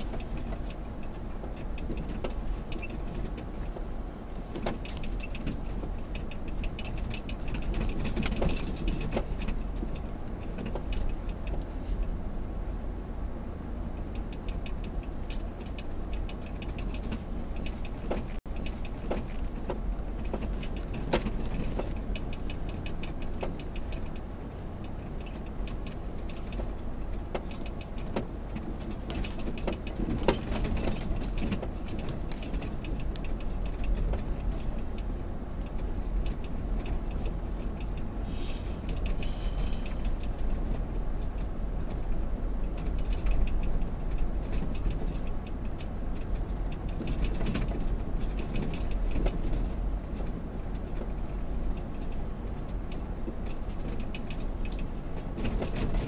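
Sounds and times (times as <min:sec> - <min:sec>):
cabin rattles and clicks: 0:00.0 - 0:11.6, 0:14.1 - 0:38.2, 0:38.8 - 0:56.0
engine and tyres rumbling: 0:00.0 - 0:56.0.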